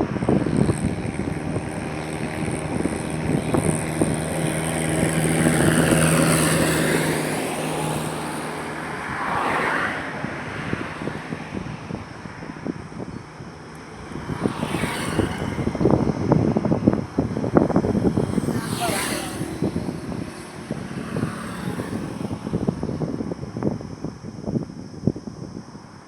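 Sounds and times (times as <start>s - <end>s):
vehicle engine passing: 0.0s - 23.8s
highway traffic: 0.0s - 26.0s.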